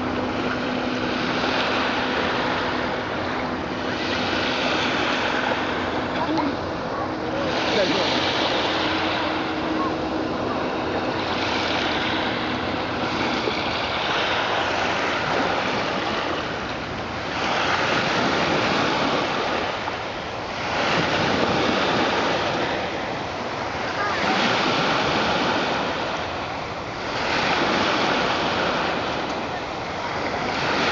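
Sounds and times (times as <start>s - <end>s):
steady low hum: 0.0s - 30.8s
waves washing onto shore: 0.0s - 30.9s.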